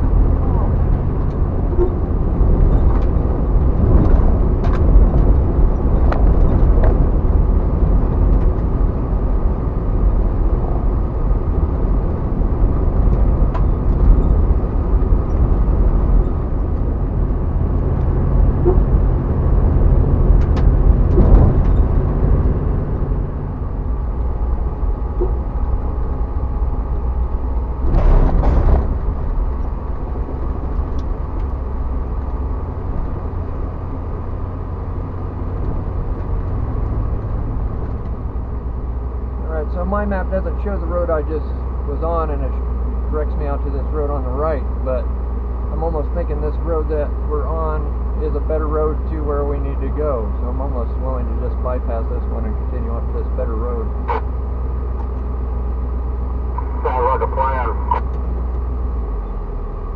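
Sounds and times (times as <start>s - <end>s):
car engine and tyre drone: 0.0s - 59.9s.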